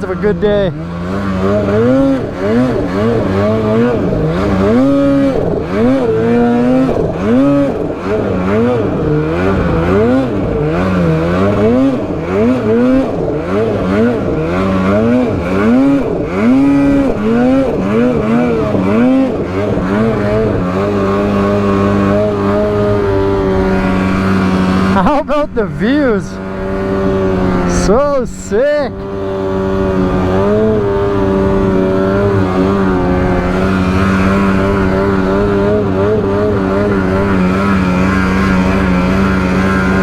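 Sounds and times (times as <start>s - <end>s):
snowmobile engine revving: 0.0s - 40.0s.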